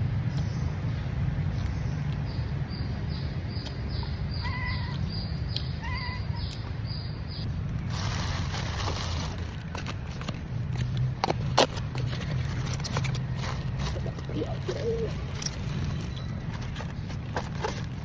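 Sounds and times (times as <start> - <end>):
low rumble of passing traffic: 0.0 - 18.0.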